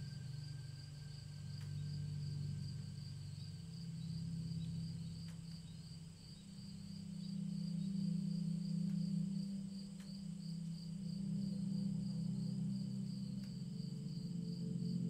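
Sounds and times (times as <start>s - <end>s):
crickets chirping: 0.0s - 15.0s
low sustained drone: 0.0s - 15.0s.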